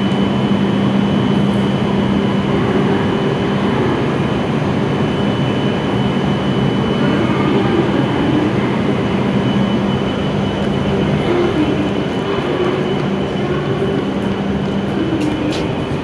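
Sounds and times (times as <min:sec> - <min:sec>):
faint high whine: 0:00.0 - 0:16.0
train equipment humming: 0:00.0 - 0:16.0.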